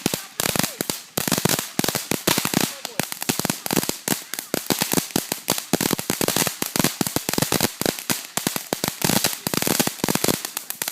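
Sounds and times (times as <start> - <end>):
firecrackers popping: 0.0 - 10.9.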